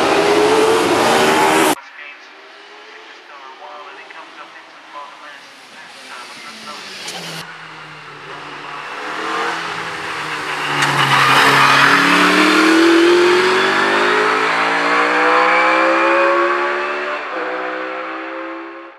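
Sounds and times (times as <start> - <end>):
racing car accelerating: 0.0 - 18.9.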